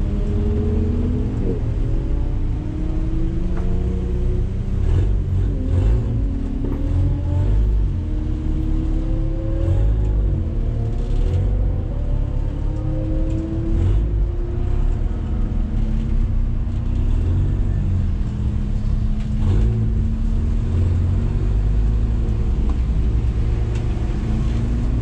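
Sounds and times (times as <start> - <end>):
car engine running at low revs: 0.0 - 25.0.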